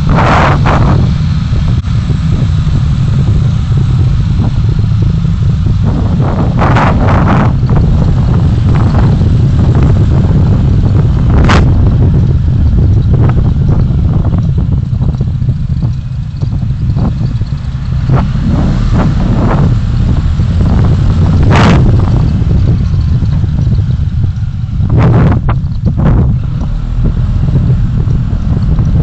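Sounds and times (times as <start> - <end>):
road and engine rumble: 0.0 - 29.0.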